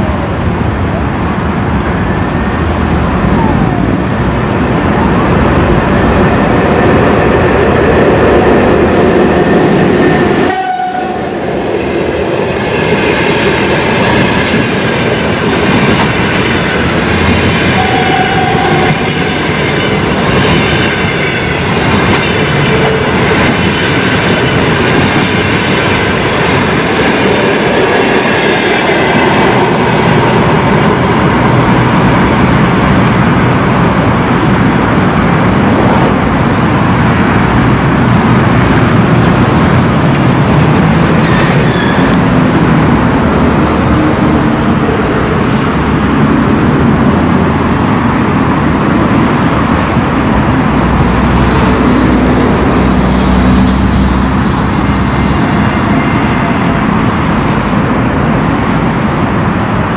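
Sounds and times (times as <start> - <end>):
train wheels clattering on rails: 6.0 - 59.2.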